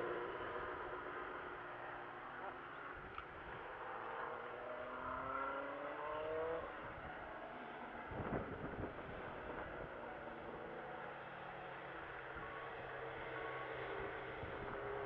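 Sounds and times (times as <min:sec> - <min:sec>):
distant racing car accelerating: 0:00.0 - 0:15.0.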